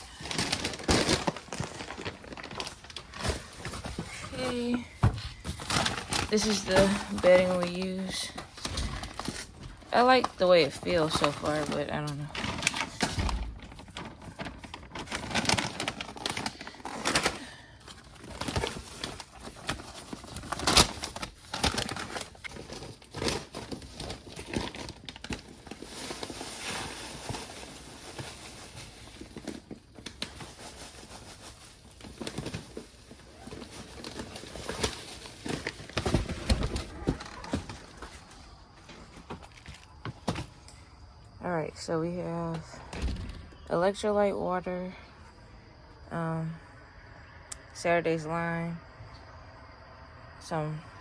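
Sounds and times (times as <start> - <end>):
rustling and crinkling bedding: 0.0 - 43.7.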